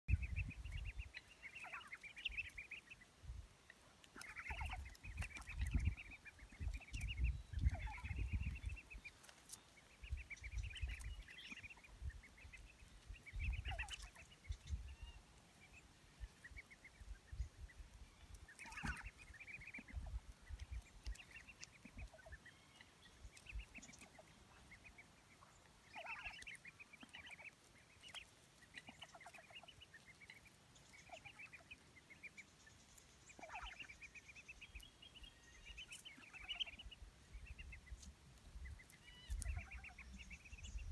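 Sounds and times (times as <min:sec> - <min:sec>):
ducklings peeping: 0:00.1 - 0:40.9.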